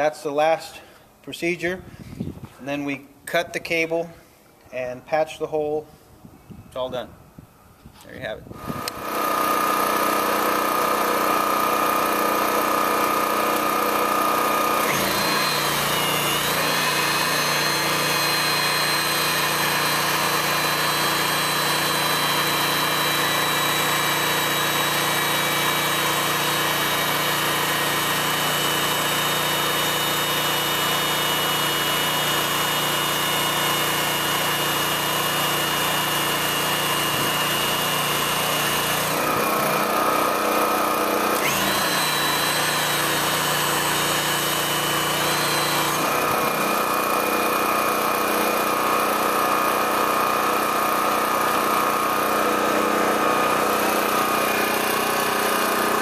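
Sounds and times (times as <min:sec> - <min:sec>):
hydraulic pump running: 0:08.5 - 0:56.0.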